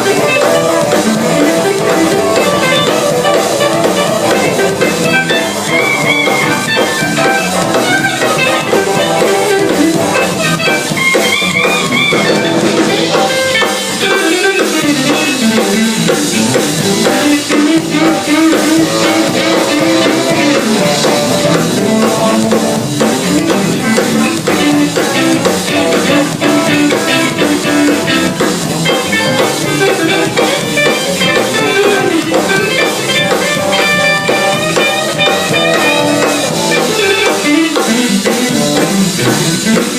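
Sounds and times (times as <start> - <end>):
instrumental band jam: 0.0 - 39.9.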